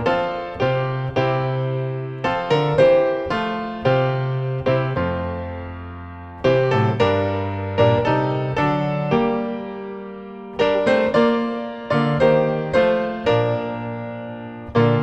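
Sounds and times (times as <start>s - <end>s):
piano playing hymn chords: 0.0s - 15.0s.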